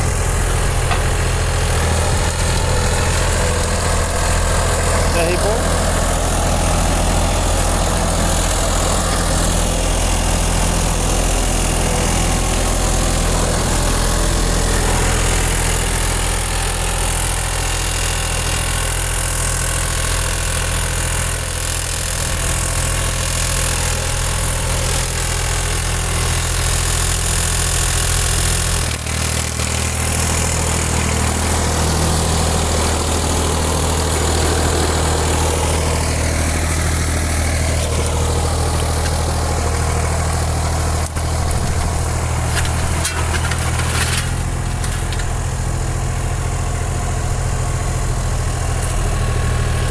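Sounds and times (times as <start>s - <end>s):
tractor engine idling: 0.0s - 49.9s.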